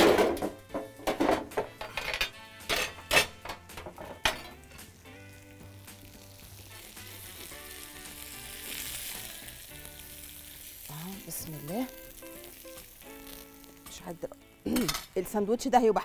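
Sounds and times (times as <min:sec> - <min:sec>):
food sizzling: 0:00.0 - 0:16.0
light background music: 0:00.0 - 0:16.0.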